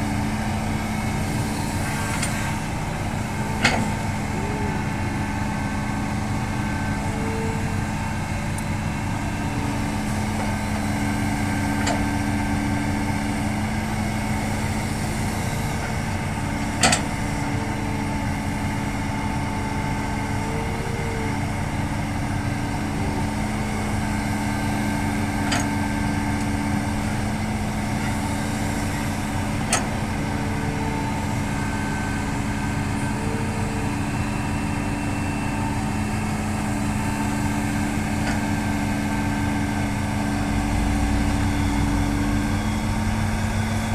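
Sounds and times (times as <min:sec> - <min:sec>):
excavator diesel engine running: 0:00.0 - 0:43.9
hydraulic whine: 0:00.0 - 0:43.9.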